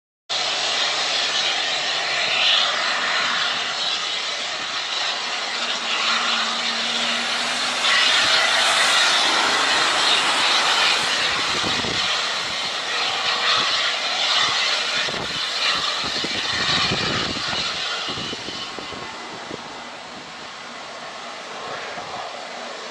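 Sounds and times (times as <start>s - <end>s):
airplane engine roar: 0.3s - 22.9s.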